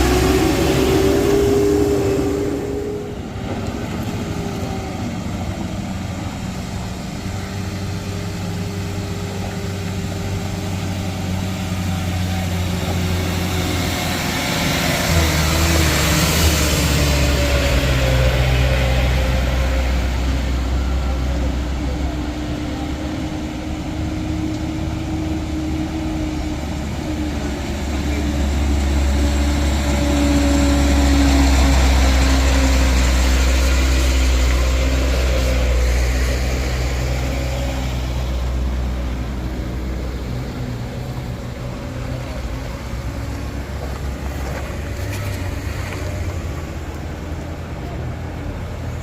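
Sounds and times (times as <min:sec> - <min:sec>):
heavy vehicle engine rumbling: 0:00.0 - 0:49.0.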